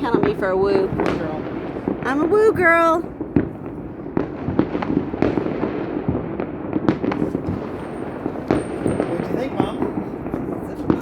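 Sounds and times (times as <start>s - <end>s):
distant fireworks crackle: 0.0s - 11.0s
fireworks bangs: 0.0s - 11.0s.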